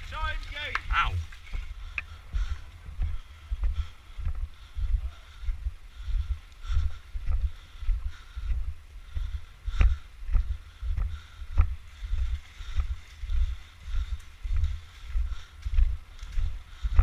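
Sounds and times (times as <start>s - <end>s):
walking footsteps: 0.0s - 17.0s.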